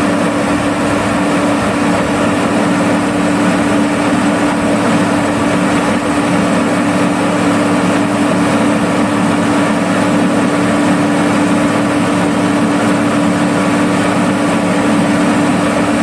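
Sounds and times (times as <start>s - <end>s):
construction machine engine running: 0.0s - 16.0s.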